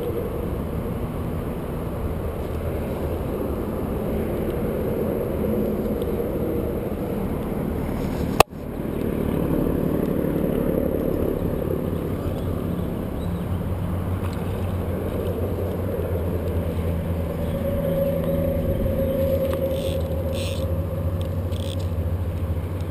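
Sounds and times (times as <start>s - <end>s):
wind rumble on microphone: 0.0s - 22.9s.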